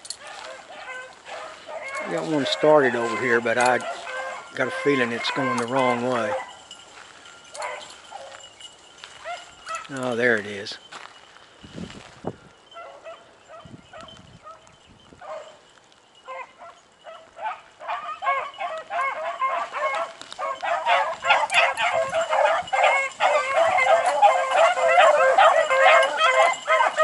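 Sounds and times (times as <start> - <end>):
hounds baying: 0.0 - 11.5, 12.6 - 27.0.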